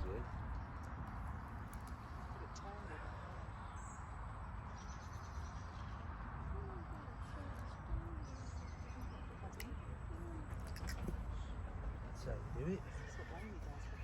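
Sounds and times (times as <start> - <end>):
faint birdsong: 0.0 - 14.0
faint distant voices: 0.0 - 14.0.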